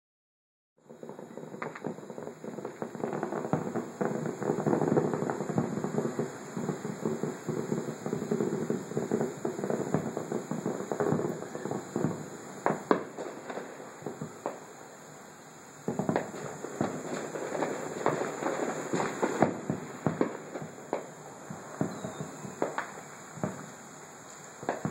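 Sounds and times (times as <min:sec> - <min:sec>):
fireworks crackling: 0:00.8 - 0:24.9
sharp firework bangs: 0:00.9 - 0:14.9, 0:15.8 - 0:24.9.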